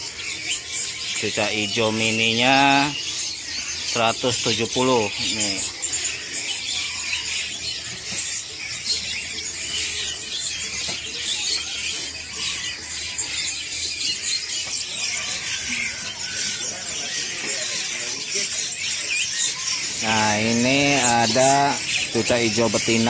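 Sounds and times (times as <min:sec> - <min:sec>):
songbirds chirping and twittering: 0:00.0 - 0:23.0.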